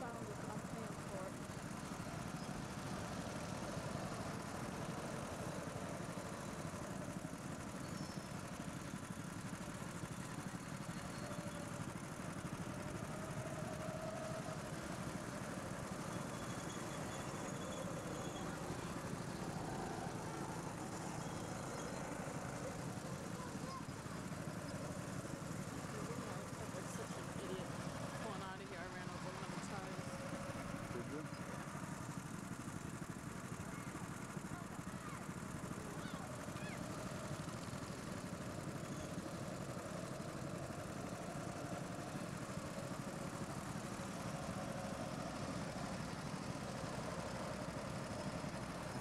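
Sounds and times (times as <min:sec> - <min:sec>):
go-kart engines running: 0:00.0 - 0:49.0.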